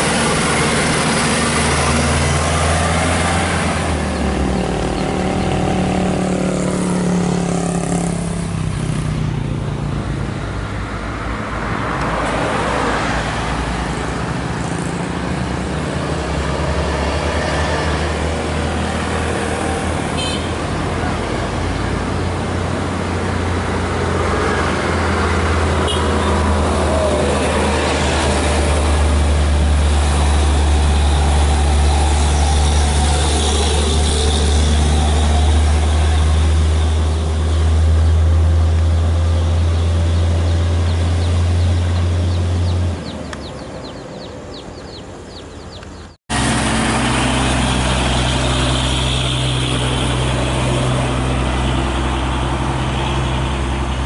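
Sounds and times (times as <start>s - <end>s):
truck diesel engines droning: 0.0s - 54.0s.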